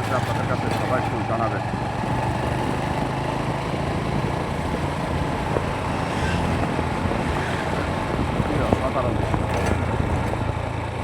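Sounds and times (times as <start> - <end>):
road noise: 0.0 - 11.0
vehicle engine running: 0.0 - 11.0.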